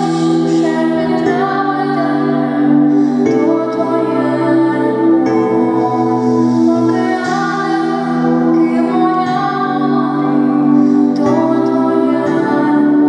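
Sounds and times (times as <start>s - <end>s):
girl singing into a microphone: 0.0s - 13.0s
instrumental held chords: 0.0s - 13.0s.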